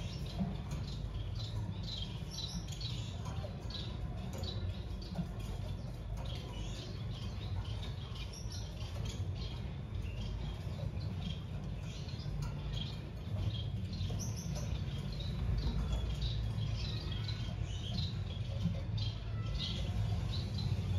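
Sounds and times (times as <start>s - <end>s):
finches chirping: 0.0s - 20.9s.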